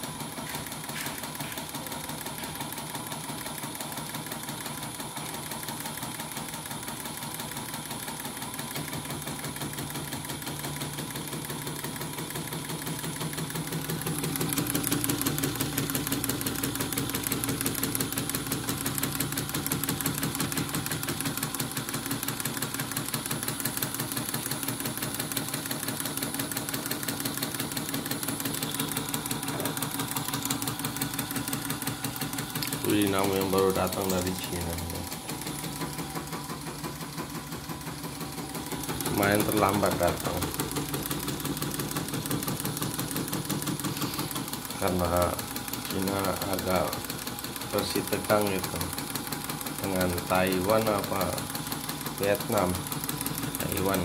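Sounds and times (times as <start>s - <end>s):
embroidery machine stitching: 0.0s - 54.0s
motor hum: 0.0s - 54.0s.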